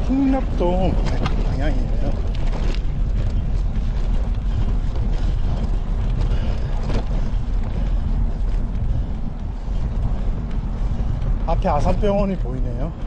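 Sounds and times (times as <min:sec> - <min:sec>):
tyres rolling on concrete: 0:00.0 - 0:13.0
wind buffeting microphone: 0:00.0 - 0:13.0.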